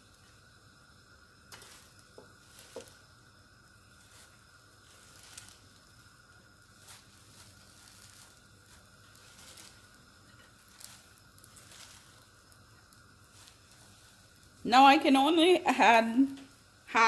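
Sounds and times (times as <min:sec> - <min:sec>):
faint rustling of leaves: 0:01.4 - 0:17.0.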